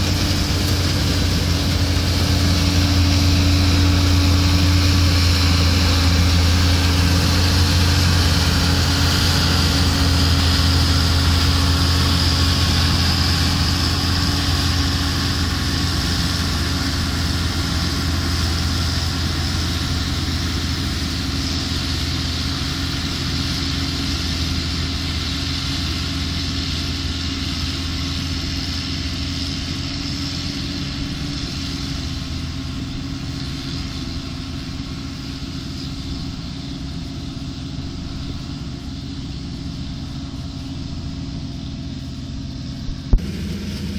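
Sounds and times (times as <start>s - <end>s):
combine harvester droning: 0.0s - 43.9s.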